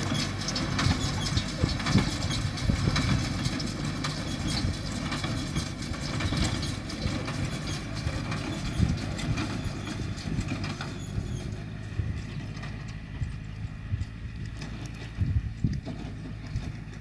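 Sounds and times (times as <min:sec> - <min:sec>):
distant tractor engine running: 0:00.0 - 0:17.0
hay baler knocking: 0:00.0 - 0:17.0.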